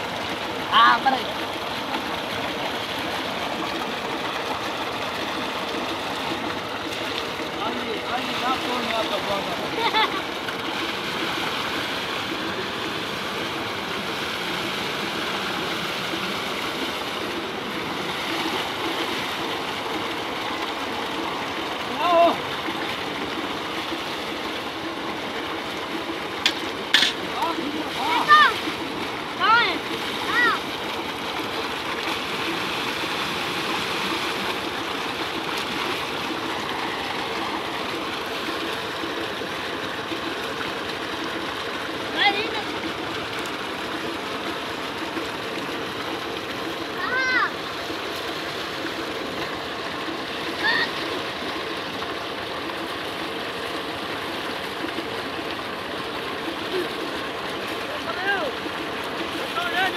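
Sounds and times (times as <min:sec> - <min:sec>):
water gushing from a pipe: 0:00.0 - 0:59.9
water splashing into a pool: 0:00.0 - 0:59.9.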